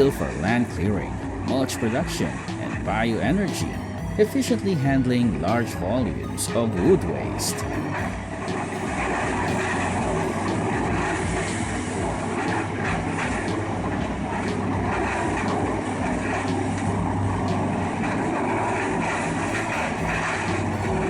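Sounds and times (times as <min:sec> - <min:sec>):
heavy machinery engine drone: 0:00.0 - 0:21.0.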